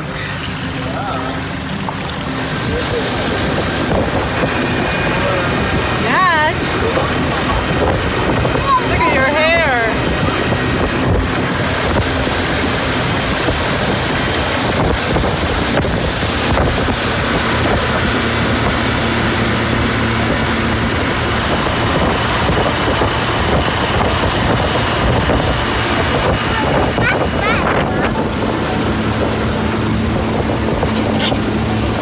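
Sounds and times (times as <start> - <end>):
outboard motor hum: 0.0 - 32.0
rushing water: 0.0 - 32.0
wind buffeting microphone: 1.6 - 32.0.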